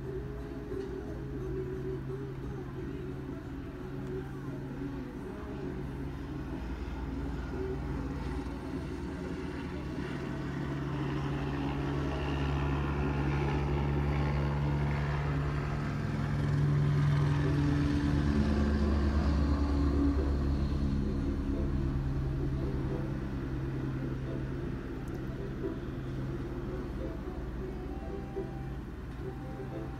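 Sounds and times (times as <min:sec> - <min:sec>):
low engine drone: 0:00.0 - 0:29.9.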